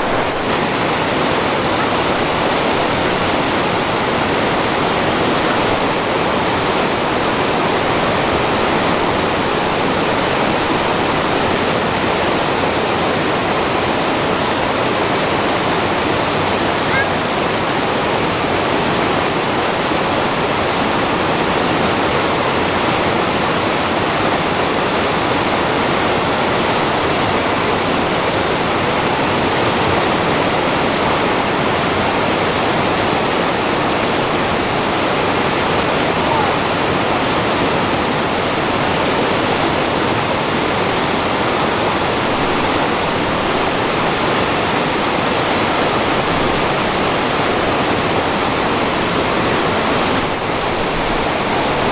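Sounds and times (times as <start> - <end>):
stream water rushing over rocks: 0.0 - 51.9.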